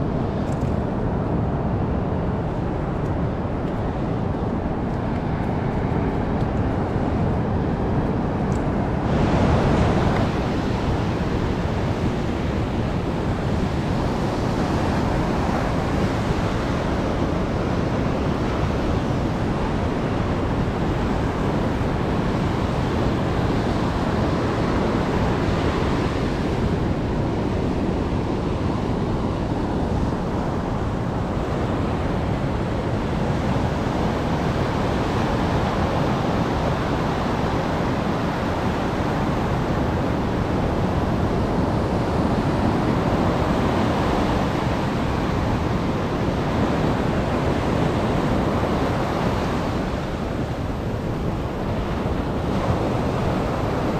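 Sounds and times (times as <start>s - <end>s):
wind noise on microphone: 0.0s - 53.9s
heavy surf breaking: 5.2s - 53.9s.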